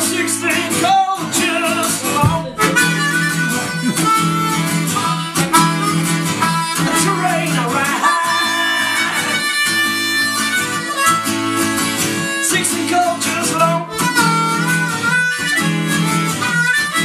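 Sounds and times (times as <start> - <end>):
blues harmonica: 0.0 - 17.0
strummed acoustic guitar: 0.0 - 17.0.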